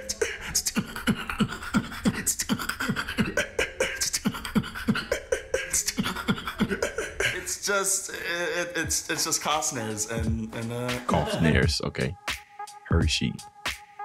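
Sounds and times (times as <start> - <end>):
beatboxing: 0.0 - 13.8.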